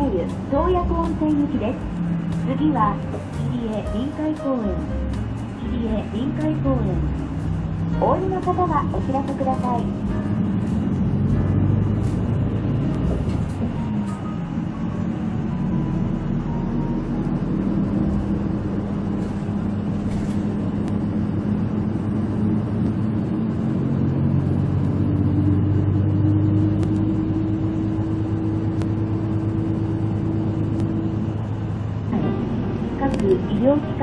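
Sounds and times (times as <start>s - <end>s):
bus engine hum: 0.0s - 34.0s
road rumble: 0.0s - 34.0s.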